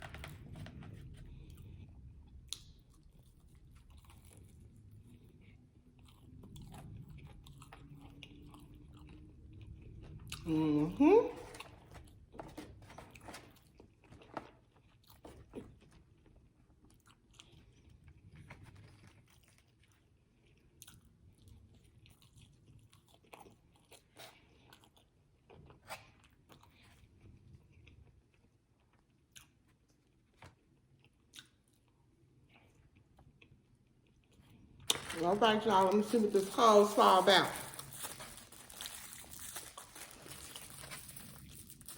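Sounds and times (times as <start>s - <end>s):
chewing fried food: 0.0s - 10.6s, 11.3s - 36.8s, 37.6s - 41.9s.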